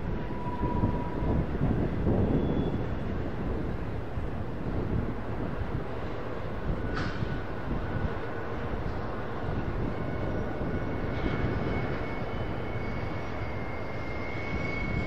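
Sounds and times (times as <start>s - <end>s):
freight train rumble: 0.0s - 15.0s.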